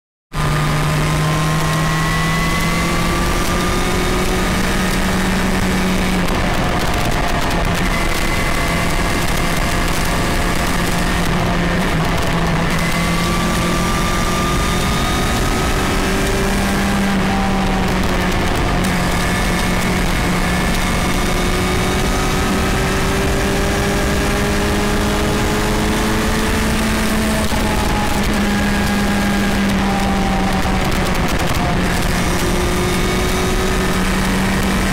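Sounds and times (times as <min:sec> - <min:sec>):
motorcycle engine running: 0:00.4 - 0:34.9
wind rush on microphone: 0:00.4 - 0:34.9.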